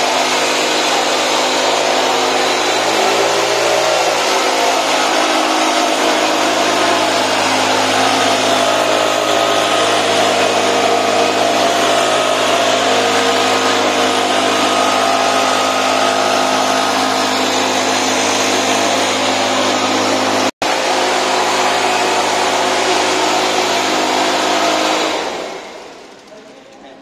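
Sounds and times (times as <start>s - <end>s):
rush of air from blower: 0.0s - 26.1s
small petrol engine running: 0.0s - 27.0s.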